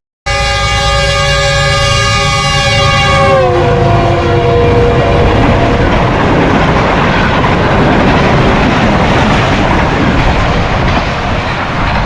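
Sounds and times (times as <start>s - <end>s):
train passing at speed: 0.3s - 12.0s.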